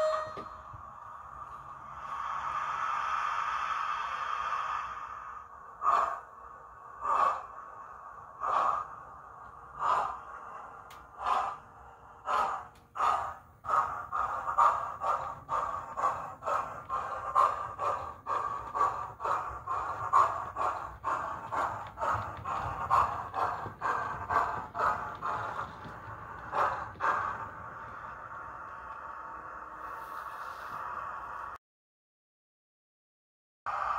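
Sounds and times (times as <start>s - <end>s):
steam locomotive exhaust chuffs: 0.0s - 31.6s
steam hiss: 0.1s - 31.6s, 33.7s - 33.9s.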